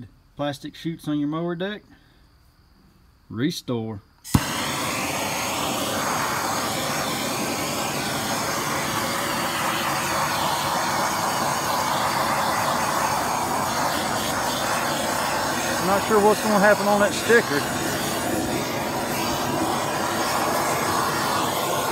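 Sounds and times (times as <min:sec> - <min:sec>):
blowtorch roaring hiss: 0:04.3 - 0:21.9.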